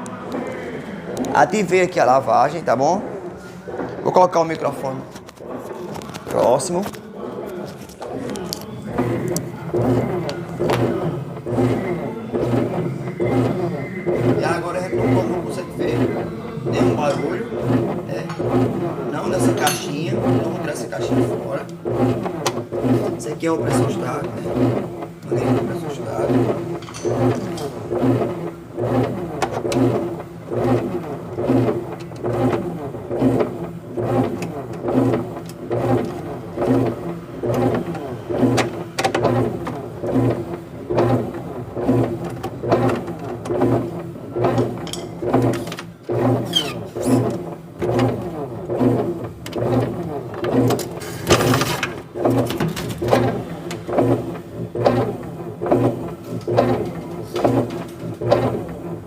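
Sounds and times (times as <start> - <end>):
washing machine agitating: 0.0 - 59.0.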